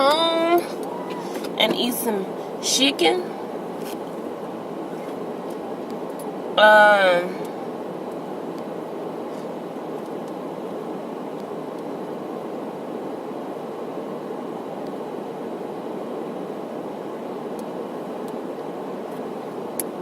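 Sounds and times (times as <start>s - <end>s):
rushing noise inside car cabin: 0.0s - 20.0s.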